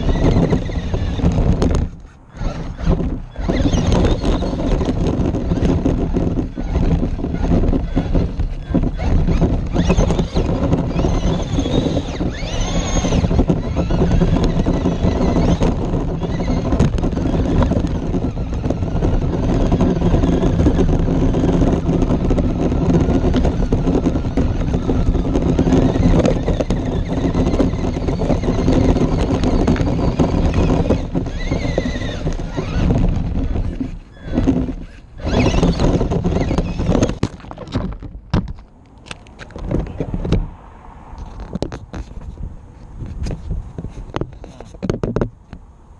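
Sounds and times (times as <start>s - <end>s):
electric motor whine: 0.0s - 37.3s
toy car tumbling knocks: 0.0s - 40.5s, 43.1s - 45.6s
stones crunching under tyres: 0.0s - 45.6s.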